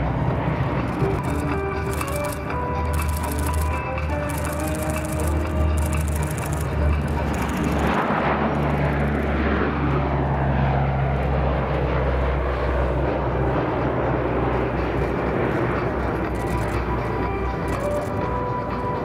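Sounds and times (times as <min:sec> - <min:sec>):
propeller aircraft droning past: 0:00.0 - 0:19.0.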